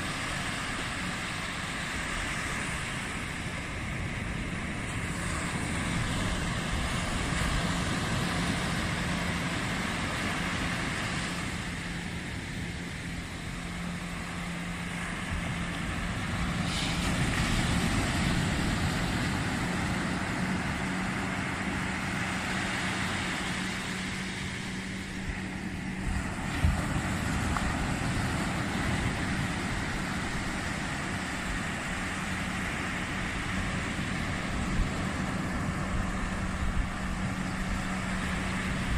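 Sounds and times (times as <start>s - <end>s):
steady low hum: 0.0s - 38.9s
waves washing up a beach: 0.0s - 38.9s.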